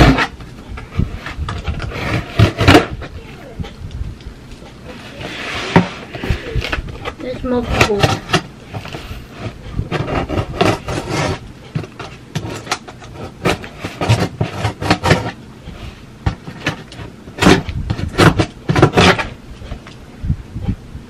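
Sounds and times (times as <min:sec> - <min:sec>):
cardboard box scraping and rasping: 0:00.0 - 0:03.3, 0:04.8 - 0:19.4.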